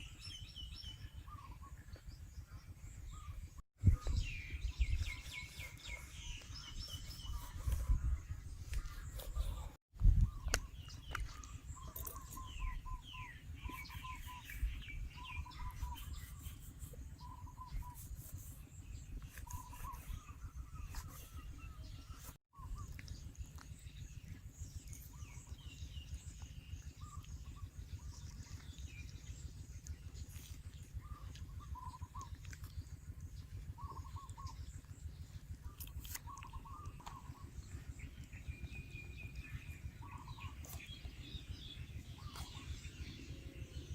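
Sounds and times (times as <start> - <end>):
small birds chirping: 0.0 - 43.9
steady low rumble: 0.1 - 43.9.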